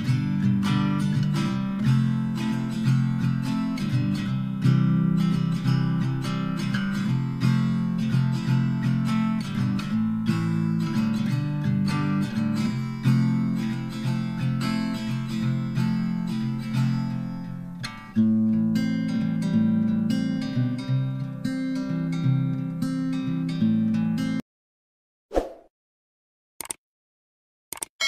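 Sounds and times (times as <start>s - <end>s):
acoustic guitar strumming: 0.0s - 24.4s.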